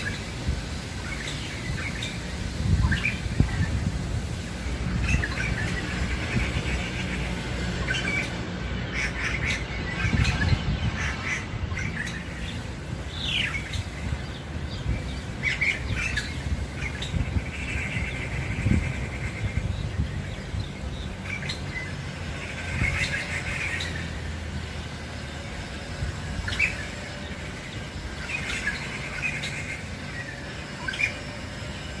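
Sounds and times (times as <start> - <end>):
bird harsh squawks and chatter: 0.9 - 32.0.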